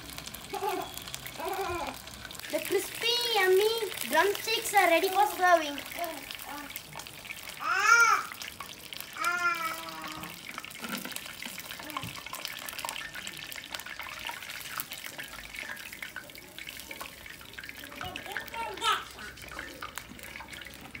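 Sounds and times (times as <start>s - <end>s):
hot oil sizzling and crackling: 0.0s - 21.0s.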